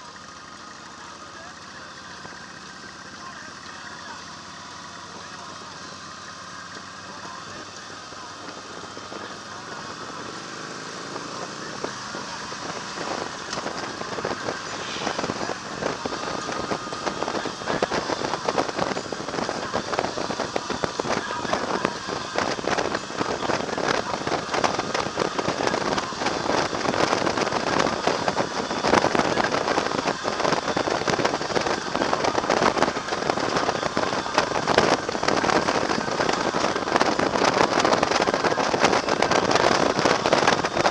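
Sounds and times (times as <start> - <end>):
motorcycle engine running: 0.0 - 40.9
wind buffeting microphone: 7.4 - 40.9.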